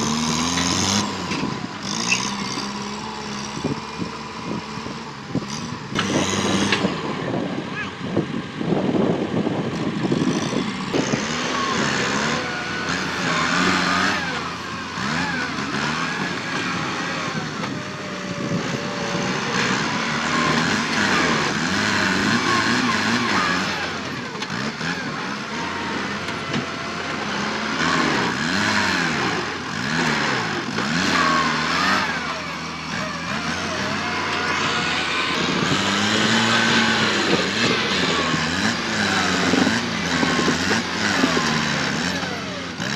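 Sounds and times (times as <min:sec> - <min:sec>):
tractor diesel engine working hard: 0:00.0 - 0:42.9.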